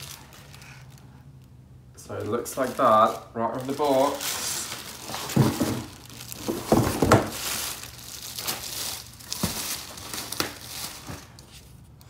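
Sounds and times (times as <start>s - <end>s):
plastic wrap and paper crinkling: 0.0s - 11.9s.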